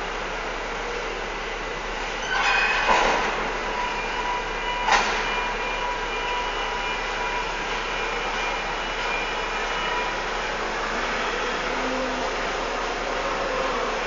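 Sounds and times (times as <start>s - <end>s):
crane machinery noise: 0.0s - 14.0s.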